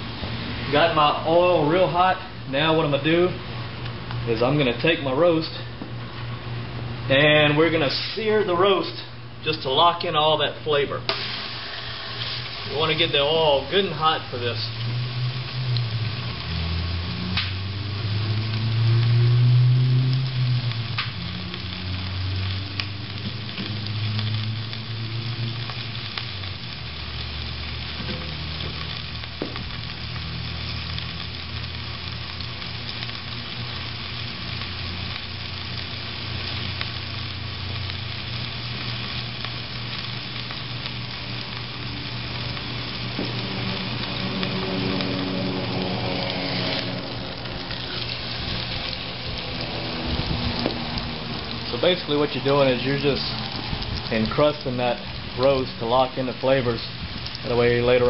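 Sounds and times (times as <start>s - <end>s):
meat sizzling in oil: 0.0s - 58.0s.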